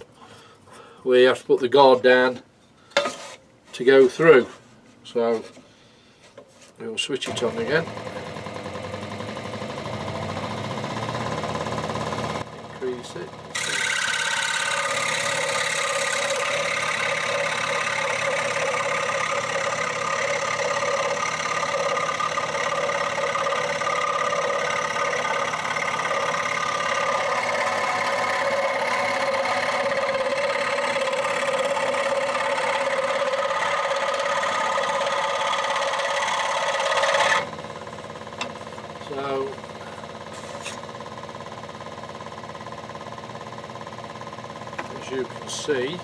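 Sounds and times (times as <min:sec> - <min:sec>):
scroll saw buzzing hum: 0:07.2 - 0:46.0.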